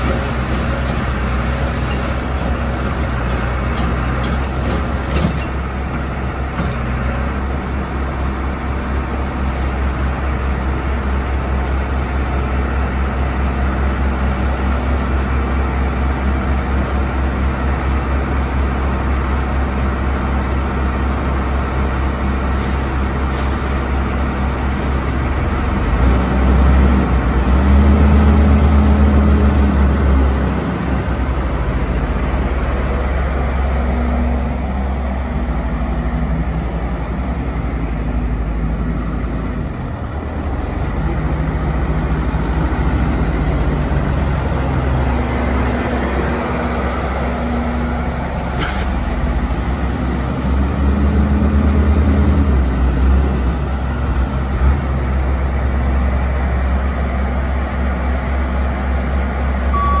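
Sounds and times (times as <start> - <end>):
diesel truck engine rumbling: 0.0 - 60.0.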